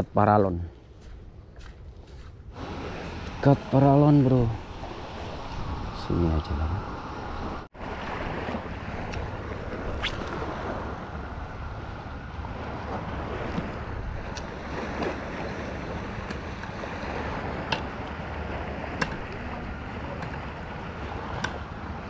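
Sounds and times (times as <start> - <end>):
sea water lapping: 0.7 - 22.0
wind on microphone: 1.2 - 22.0.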